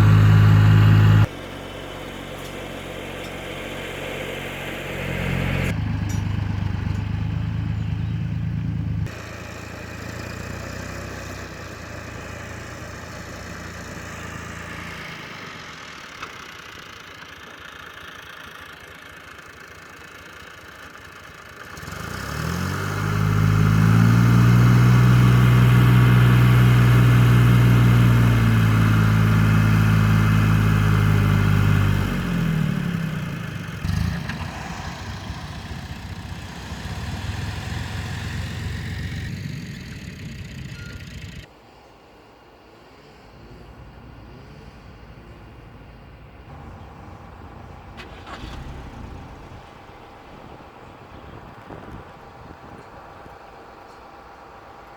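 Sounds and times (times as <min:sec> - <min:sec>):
diesel engine revving: 0:00.0 - 0:41.5, 0:43.2 - 0:54.9.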